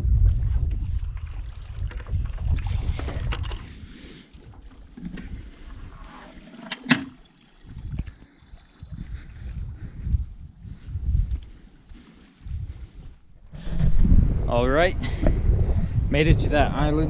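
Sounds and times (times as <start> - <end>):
wind buffeting microphone: 0.0 - 6.2, 7.6 - 17.0.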